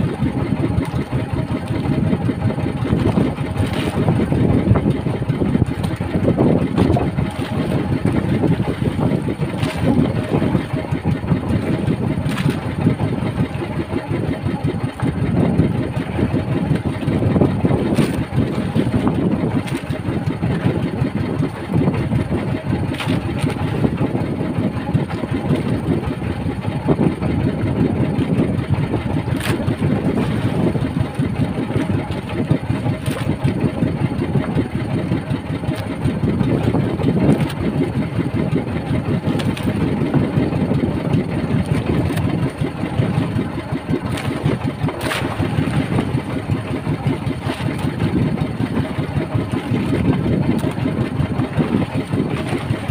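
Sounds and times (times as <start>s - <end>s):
boat engine idling: 0.0s - 52.9s.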